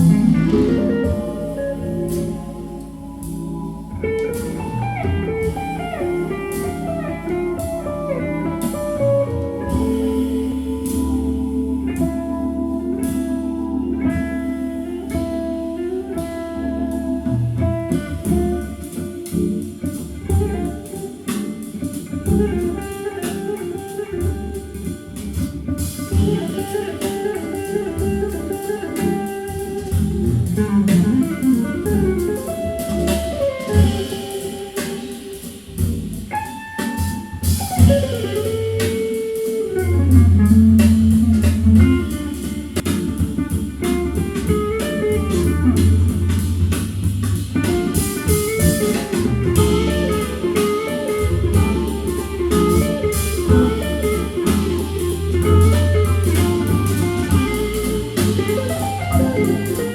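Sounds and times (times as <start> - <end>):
bass guitar line: 0.0 - 59.9
bending electric guitar notes: 0.0 - 59.9
drums: 0.0 - 59.9.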